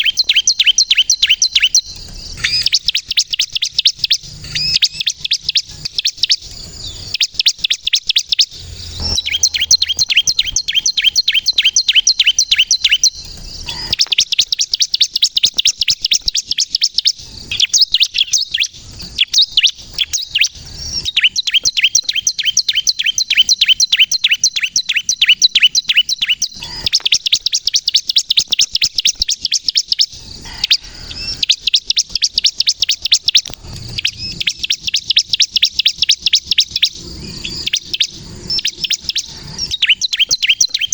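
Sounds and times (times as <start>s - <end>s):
bird singing rapid high chirps: 0.0s - 40.9s.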